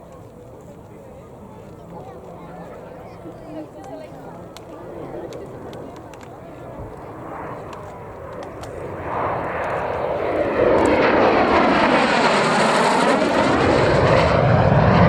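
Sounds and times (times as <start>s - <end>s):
jet flying past: 0.0s - 15.0s.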